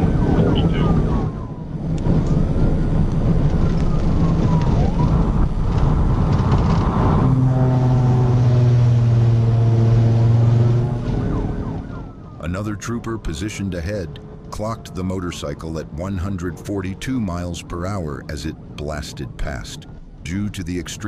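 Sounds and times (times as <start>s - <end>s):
police siren wailing: 0.0s - 19.7s
engine and road noise: 0.0s - 21.0s.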